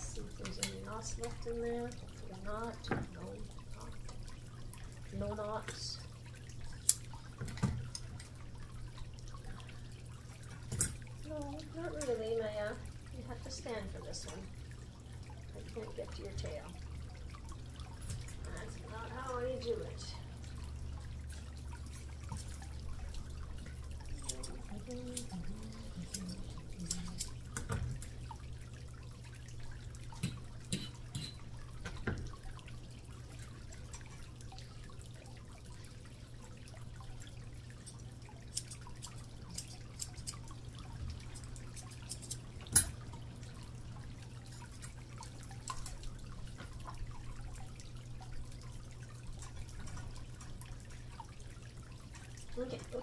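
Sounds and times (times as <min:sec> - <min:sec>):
water dripping and trickling: 0:00.0 - 0:53.0.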